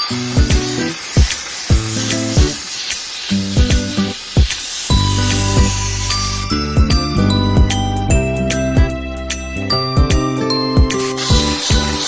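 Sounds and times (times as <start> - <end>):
bell-like tinkling notes: 0.0 - 12.0
steady beat: 0.4 - 12.0.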